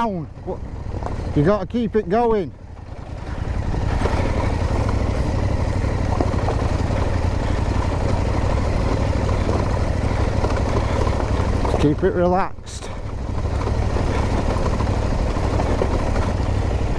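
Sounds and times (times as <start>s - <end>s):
motorcycle engine rumbling: 0.0s - 16.9s.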